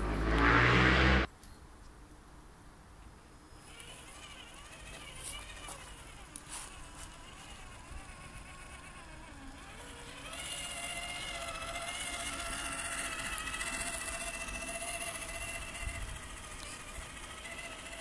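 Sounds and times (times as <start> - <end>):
toy car electric motor whining: 3.6 - 18.0.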